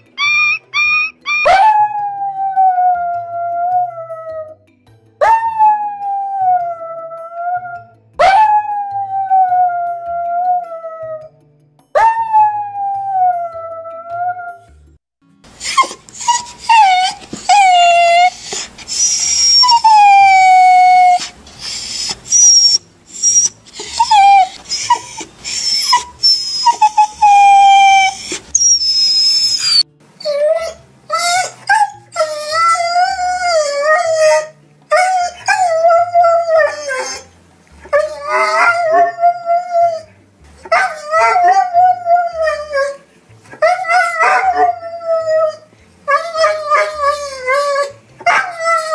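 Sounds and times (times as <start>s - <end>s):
dogs whining and howling: 0.0s - 4.6s, 5.2s - 11.3s, 12.0s - 14.8s, 15.5s - 48.9s.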